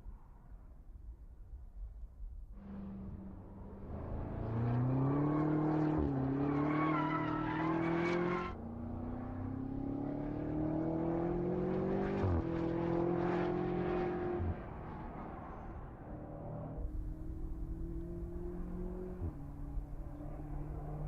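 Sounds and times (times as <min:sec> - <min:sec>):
car engine accelerating hard: 0:02.6 - 0:21.0.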